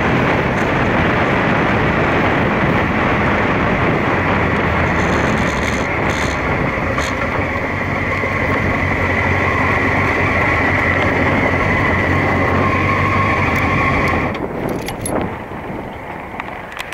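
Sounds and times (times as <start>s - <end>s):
motorcycle engine at speed: 0.0s - 16.9s
wind rush: 0.0s - 16.9s.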